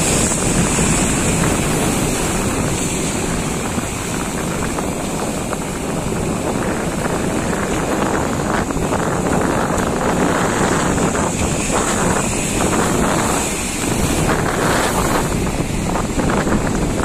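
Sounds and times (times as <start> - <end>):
waves washing around boat: 0.0 - 17.0
wind buffeting microphone: 0.0 - 17.0.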